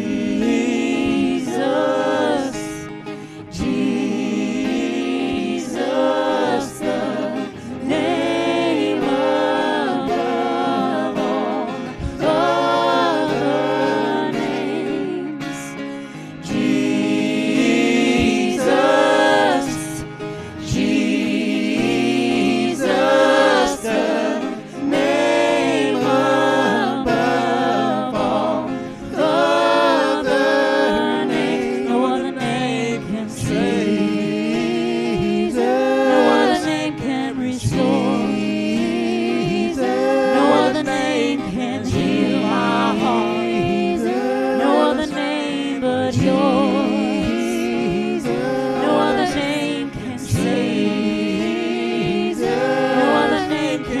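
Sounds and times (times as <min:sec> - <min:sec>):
vocal group singing in harmony: 0:00.0 - 0:54.0.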